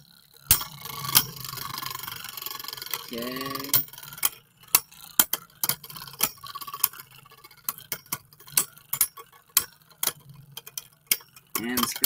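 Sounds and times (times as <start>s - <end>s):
faint spinning hum: 0.0s - 12.0s
spinning tops clacking: 0.0s - 12.0s.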